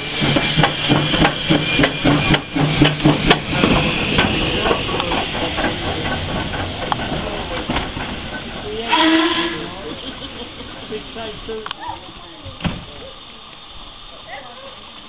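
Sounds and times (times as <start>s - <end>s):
steam locomotive clanking: 0.0s - 14.2s
steam hissing: 0.0s - 15.0s.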